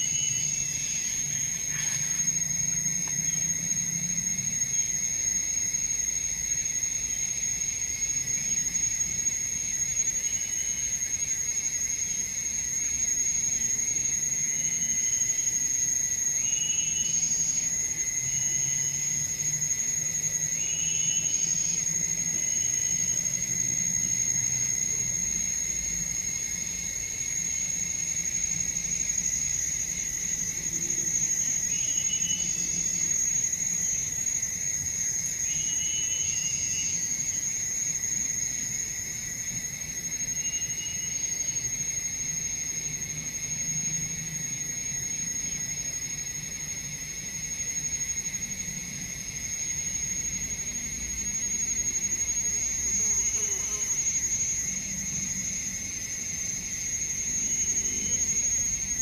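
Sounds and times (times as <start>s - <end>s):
insect chirping call: 0.0s - 59.0s
insects high-pitched drone: 0.0s - 59.0s.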